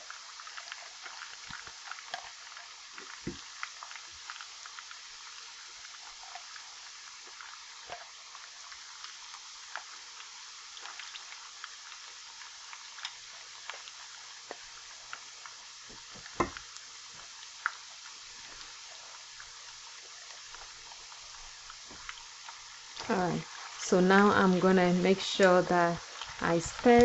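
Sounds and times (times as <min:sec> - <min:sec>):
onions sizzling in oil: 0:00.0 - 0:27.0.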